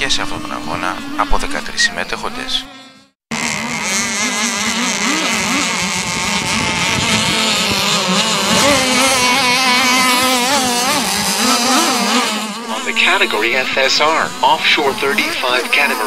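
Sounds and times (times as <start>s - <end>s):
model boat engines revving: 0.0s - 16.0s.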